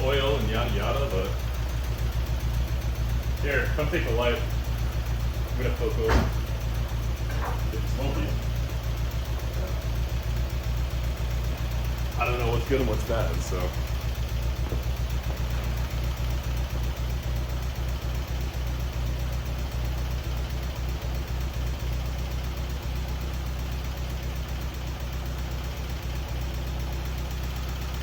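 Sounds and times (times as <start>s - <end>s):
car engine idling with tick: 0.0s - 28.0s.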